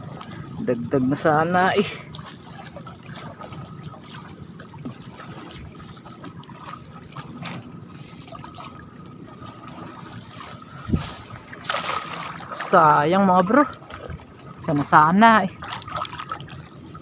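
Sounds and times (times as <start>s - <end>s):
small water splashes: 0.0s - 17.0s.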